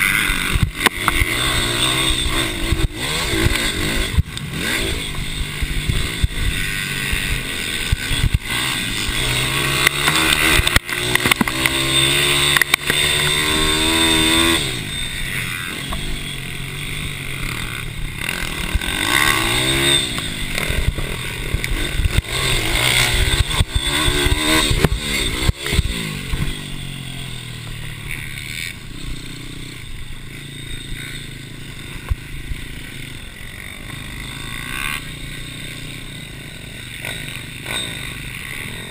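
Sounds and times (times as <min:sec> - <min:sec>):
mini bike engines revving: 0:00.0 - 0:38.9.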